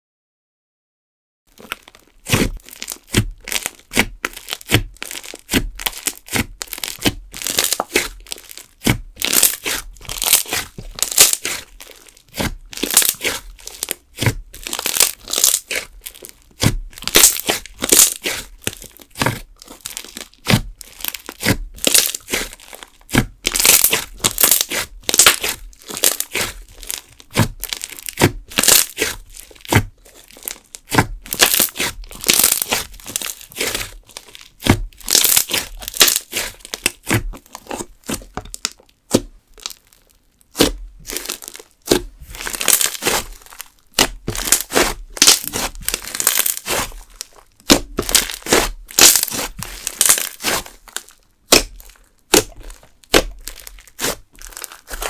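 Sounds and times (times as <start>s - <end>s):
slime crackling: 1.5s - 55.0s.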